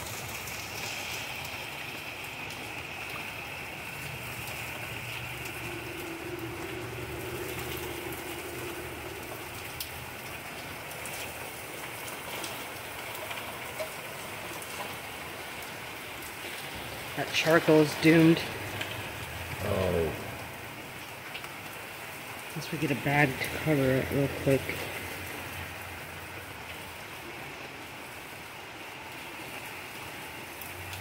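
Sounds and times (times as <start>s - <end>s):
rain falling on patio: 0.0s - 31.0s.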